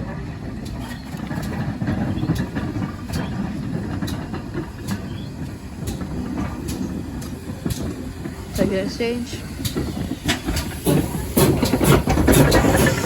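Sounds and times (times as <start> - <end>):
low train rumble: 0.0 - 13.0
train wheel clicks: 0.0 - 13.0.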